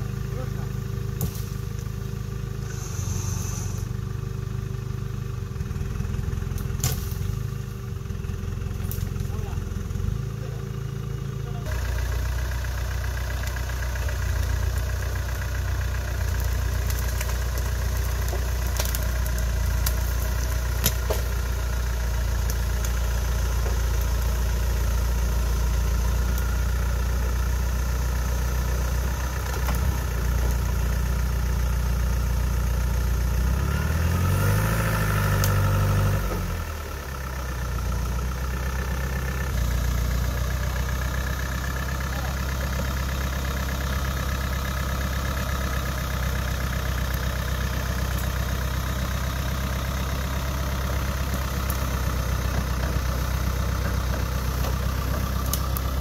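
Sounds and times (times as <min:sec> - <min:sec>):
engine idling and revving: 0:00.0 - 0:56.0.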